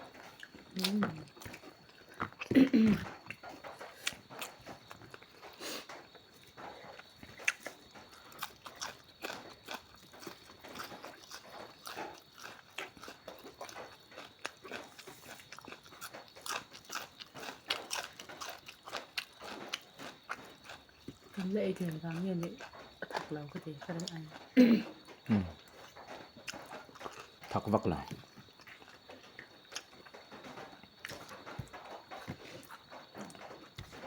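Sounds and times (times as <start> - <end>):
chewing and crunching: 0.0 - 34.0.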